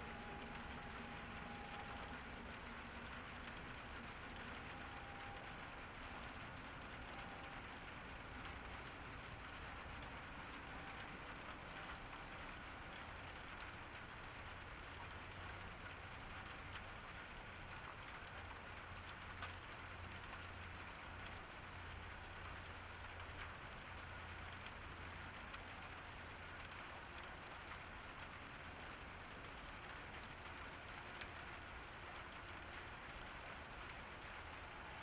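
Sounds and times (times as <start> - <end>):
rain falling on a garden: 0.0 - 35.0.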